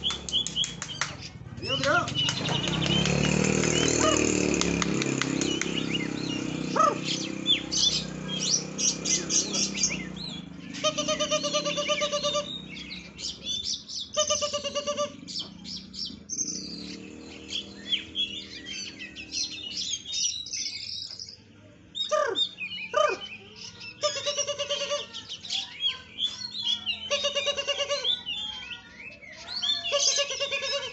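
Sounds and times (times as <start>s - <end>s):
songbird singing varied song: 0.0s - 30.9s.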